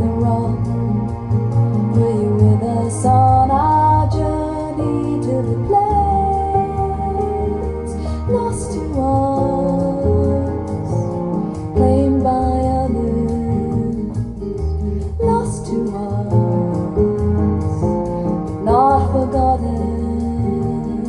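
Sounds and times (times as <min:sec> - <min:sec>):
recorded folk song playing: 0:00.0 - 0:21.0.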